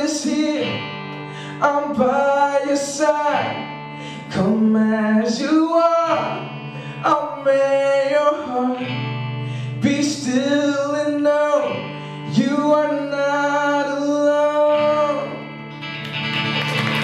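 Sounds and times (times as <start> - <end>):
strummed acoustic guitar: 0.0 - 17.0
man singing long notes: 1.4 - 15.4.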